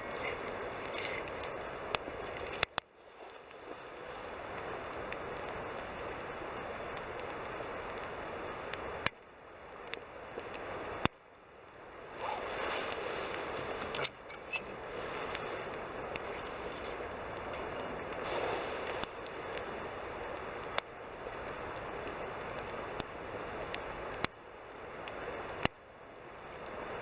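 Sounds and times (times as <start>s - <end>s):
burning wood crackling: 0.0s - 27.0s
campfire flame rushing: 0.0s - 27.0s.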